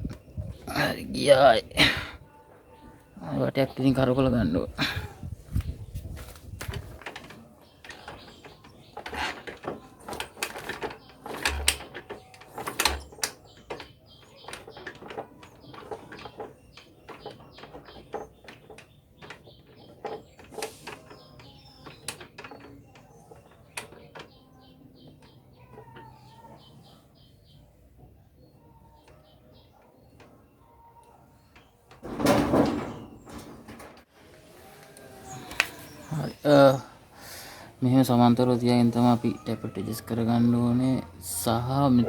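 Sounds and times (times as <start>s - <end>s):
faint birds chirping: 0.0s - 42.0s.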